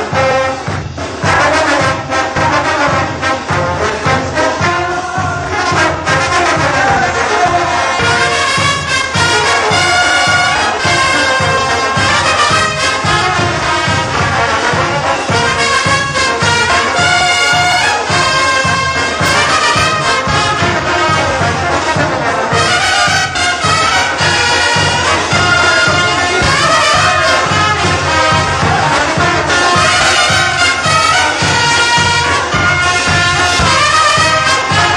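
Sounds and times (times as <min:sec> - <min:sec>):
bass drum beat: 0:00.0 - 0:34.9
trumpets and trombones: 0:00.0 - 0:34.9.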